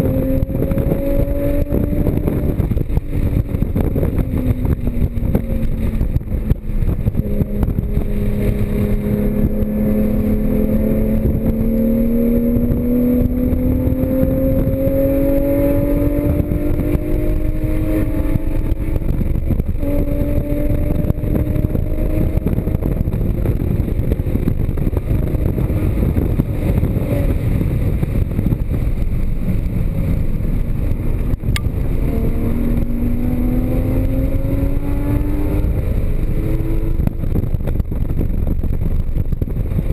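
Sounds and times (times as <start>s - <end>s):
car engine revving: 0.0s - 39.9s
wind and tyre noise: 0.0s - 39.9s.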